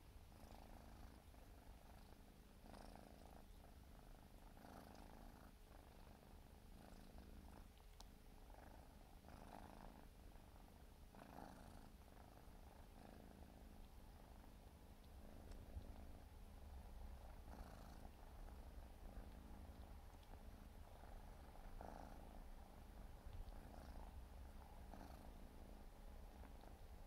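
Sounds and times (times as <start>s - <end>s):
kitten purring: 0.0s - 27.0s.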